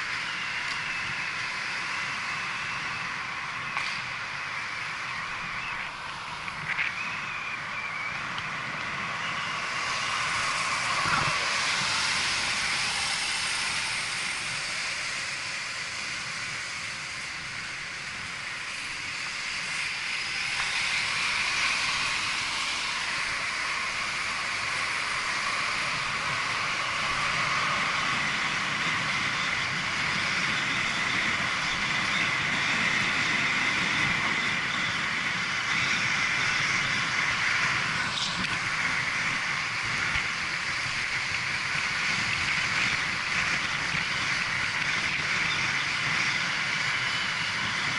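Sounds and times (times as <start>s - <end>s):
wind and road noise: 0.0s - 47.9s.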